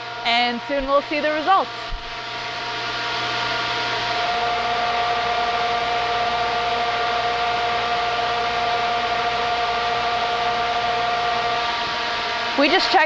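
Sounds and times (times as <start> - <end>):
fogger motor whine: 0.0 - 13.0.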